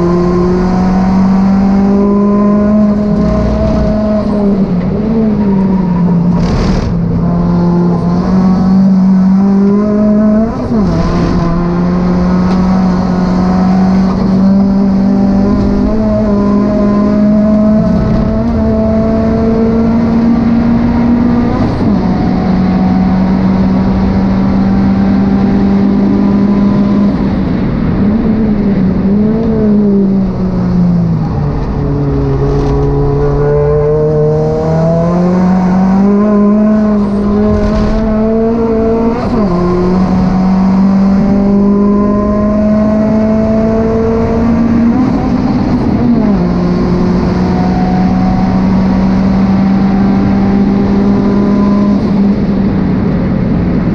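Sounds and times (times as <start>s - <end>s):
car engine running hard: 0.0s - 53.9s
wind noise: 0.0s - 53.9s.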